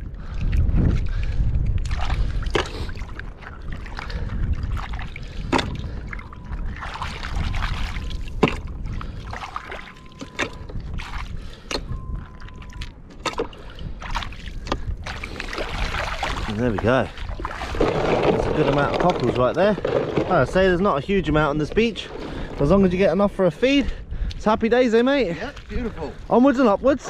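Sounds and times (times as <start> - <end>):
wind rumbling on microphone: 0.0 - 27.0
water splashing: 1.2 - 23.3.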